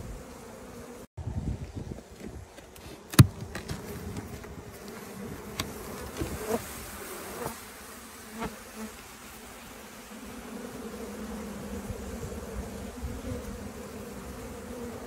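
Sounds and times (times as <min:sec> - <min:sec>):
honey bees humming: 0:00.0 - 0:01.1, 0:02.0 - 0:15.0.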